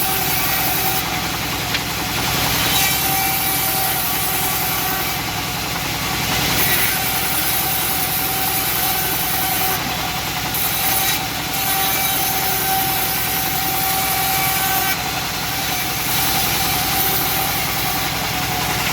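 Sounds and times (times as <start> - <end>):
bandsaw mill running: 0.0 - 18.9.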